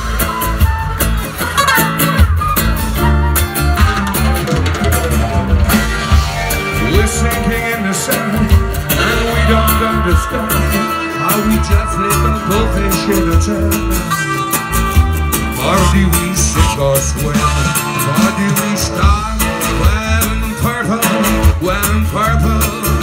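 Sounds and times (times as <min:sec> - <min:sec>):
drums keeping steady beat: 0:00.0 - 0:23.0
strummed acoustic guitars: 0:00.0 - 0:23.0.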